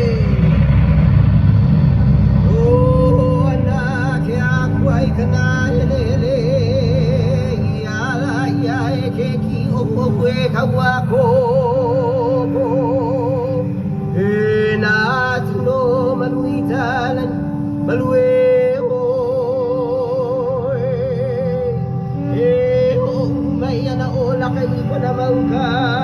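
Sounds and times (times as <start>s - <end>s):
held low drone tone: 0.0s - 26.0s
person singing with vibrato: 0.0s - 26.0s.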